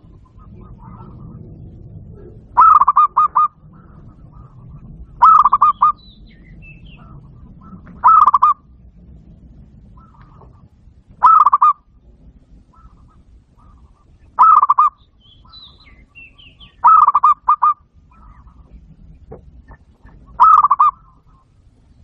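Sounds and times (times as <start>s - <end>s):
dove cooing: 0.0s - 8.6s, 9.8s - 11.9s, 12.6s - 21.6s
low steady hum: 0.0s - 22.0s.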